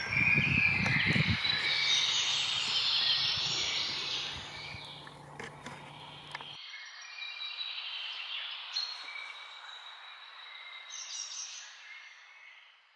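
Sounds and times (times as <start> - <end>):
small birds chirping and singing: 0.0 - 12.9.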